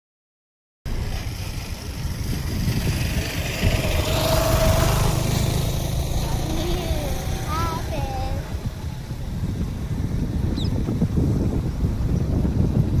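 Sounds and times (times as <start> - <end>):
car engine and road rumble: 0.9 - 13.0.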